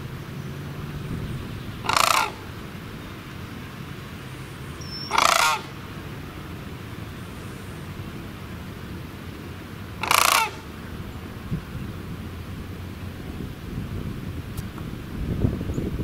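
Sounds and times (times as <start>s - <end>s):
crane rattling calls: 0.0s - 14.5s.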